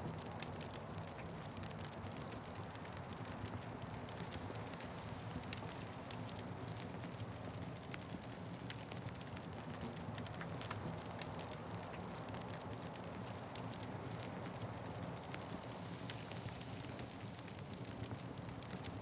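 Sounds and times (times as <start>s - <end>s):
low rumble of flames: 0.1s - 19.0s
wood fire crackling: 0.2s - 19.0s.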